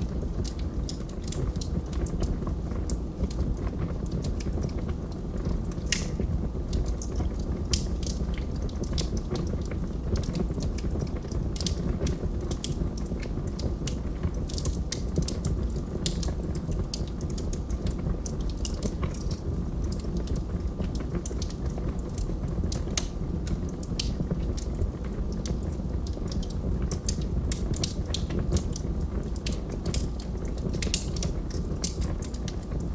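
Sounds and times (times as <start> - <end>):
low rumble of flames: 0.0 - 32.9
wood fire crackling and popping: 0.0 - 32.9.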